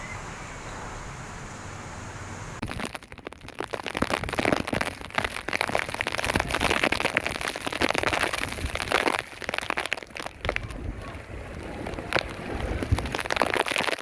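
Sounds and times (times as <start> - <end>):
heavy rain on hard surface: 0.0 - 14.0.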